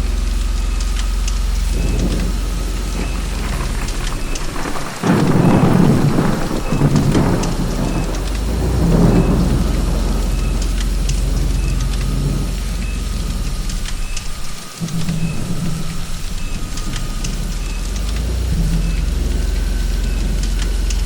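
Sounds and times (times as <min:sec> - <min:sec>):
low rumble of thunder: 0:00.0 - 0:21.0
steady rain falling: 0:00.0 - 0:21.0
loud peal of thunder: 0:01.5 - 0:21.0.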